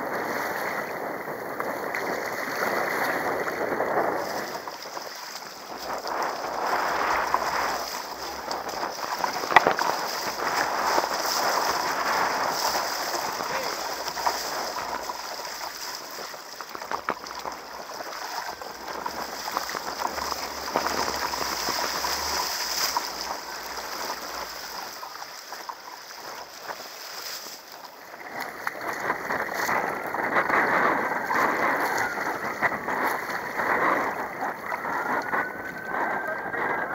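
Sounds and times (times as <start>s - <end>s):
paddle blades dipping: 0.0s - 36.9s
water splashing against kayak hull: 0.0s - 36.9s.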